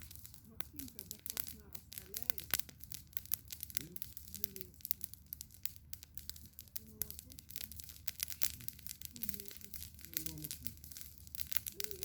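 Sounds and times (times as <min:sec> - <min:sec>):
campfire crackling: 0:00.0 - 0:12.0
faint voices: 0:00.4 - 0:02.8, 0:03.6 - 0:05.6, 0:06.2 - 0:12.0.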